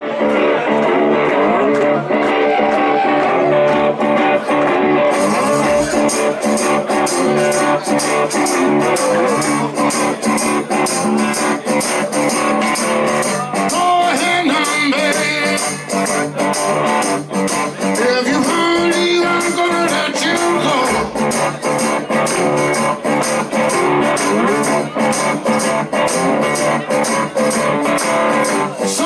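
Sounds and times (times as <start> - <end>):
blues-rock band playing live: 0.0 - 29.0
electric guitar: 0.0 - 29.0.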